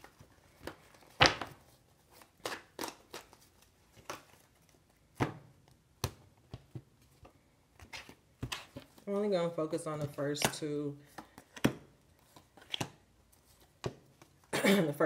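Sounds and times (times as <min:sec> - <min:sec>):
cards being shuffled: 0:00.0 - 0:09.0, 0:10.0 - 0:14.5.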